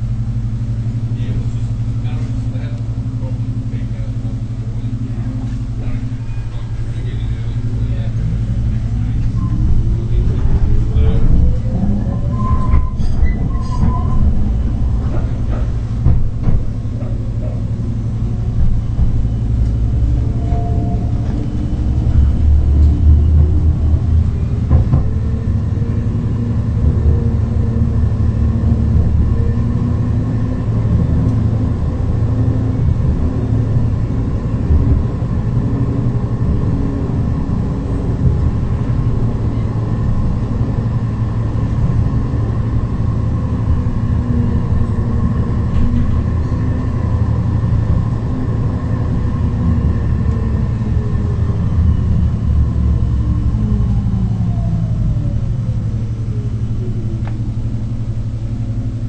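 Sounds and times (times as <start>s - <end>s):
faint drifting tones: 0.0s - 59.0s
tram wheels on rails: 0.0s - 59.0s.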